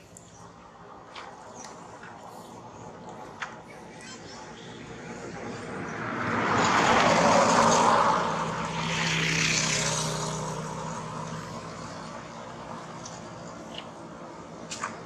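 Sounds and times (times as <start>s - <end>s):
engine passing by: 0.0s - 14.6s.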